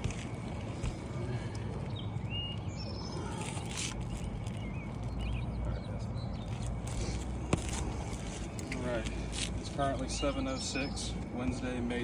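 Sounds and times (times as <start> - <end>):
low outdoor rumble: 0.0 - 12.0
small birds chirping: 0.6 - 12.0.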